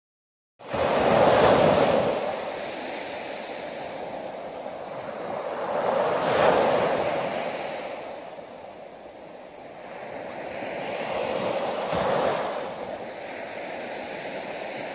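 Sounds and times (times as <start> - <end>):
waves washing up a beach: 0.6 - 14.9.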